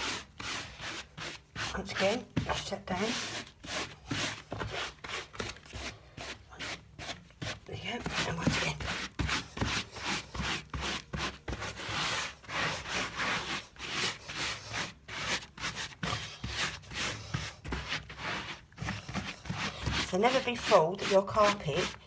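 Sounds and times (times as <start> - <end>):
gloved hand scrubbing carpet: 0.0 - 22.0.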